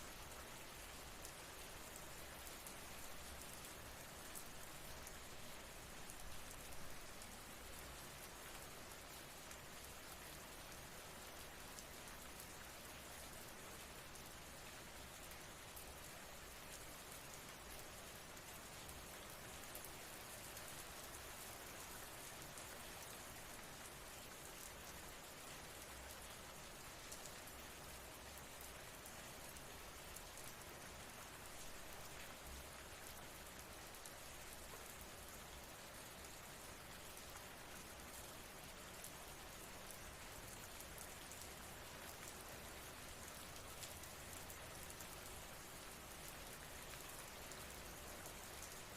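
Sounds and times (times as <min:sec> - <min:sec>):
faint rain pattering: 0:00.0 - 0:48.9.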